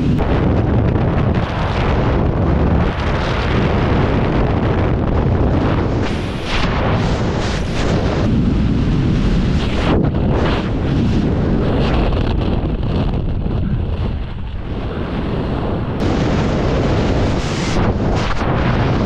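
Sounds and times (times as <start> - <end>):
wind rushing across microphone: 0.0 - 19.0.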